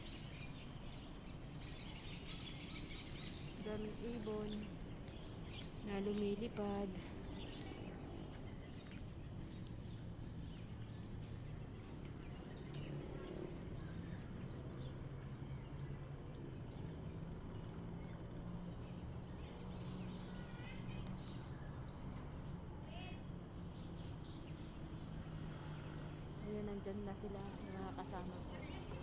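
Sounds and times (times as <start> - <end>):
low background rumble: 0.0 - 29.0
small birds chirping: 0.0 - 29.0.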